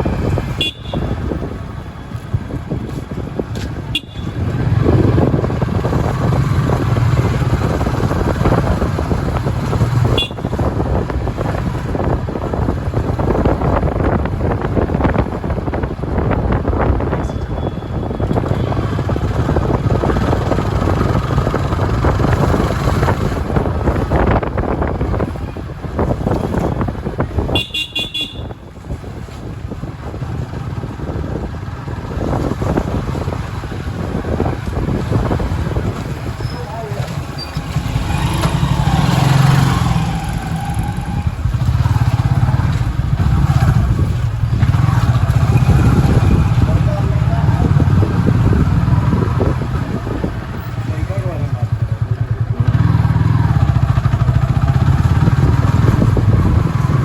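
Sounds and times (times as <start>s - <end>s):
passing vehicles rumbling: 0.0s - 57.0s.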